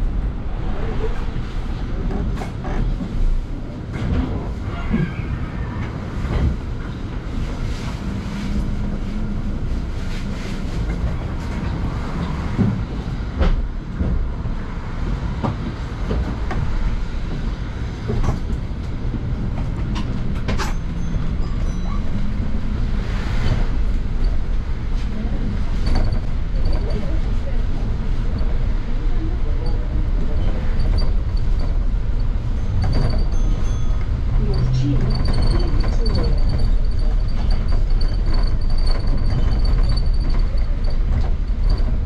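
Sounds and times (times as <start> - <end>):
bus engine and road rumble: 0.0 - 42.0.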